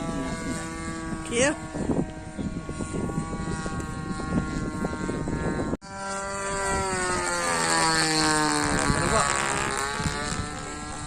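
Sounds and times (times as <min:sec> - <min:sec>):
model plane engine drone: 0:00.0 - 0:11.0.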